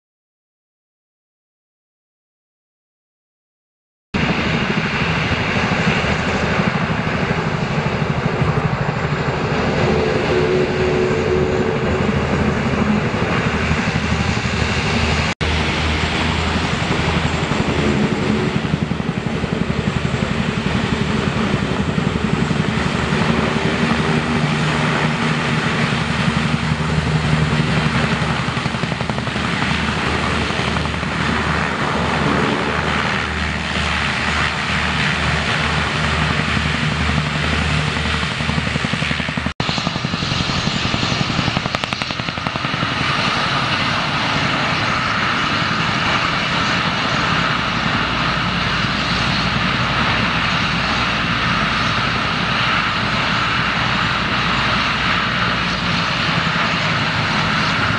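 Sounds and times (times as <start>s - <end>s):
helicopter hovering: 4.2s - 57.9s
hovercraft roaring: 4.2s - 57.9s.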